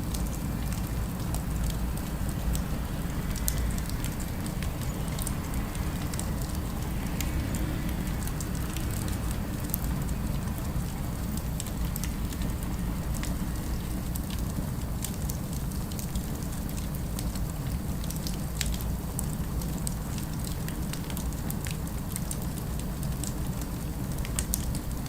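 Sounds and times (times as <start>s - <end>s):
fireplace crackling and popping: 0.0s - 24.9s
low rumble of ambience: 0.0s - 25.0s.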